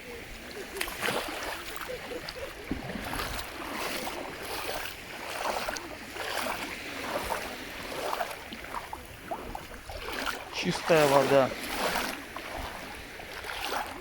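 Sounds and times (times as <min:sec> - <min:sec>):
sea waves washing onto beach: 0:00.0 - 0:14.0.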